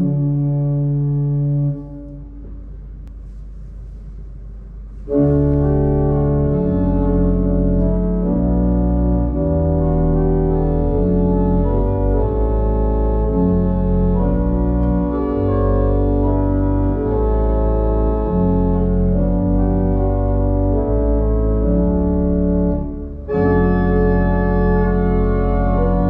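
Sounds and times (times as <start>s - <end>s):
pipe organ chords: 0.0s - 26.0s.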